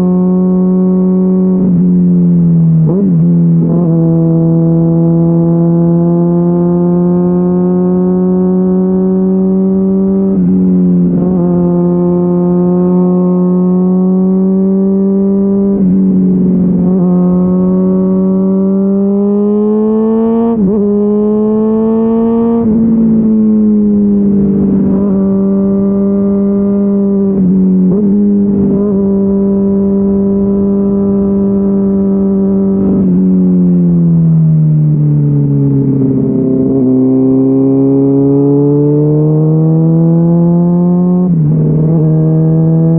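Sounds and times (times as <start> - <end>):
motorcycle engine at high revs: 0.0 - 42.9.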